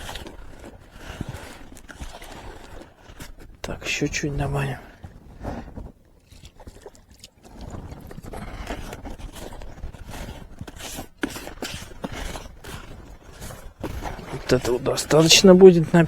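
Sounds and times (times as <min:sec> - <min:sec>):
hands kneading damp bait: 0:00.0 - 0:16.0.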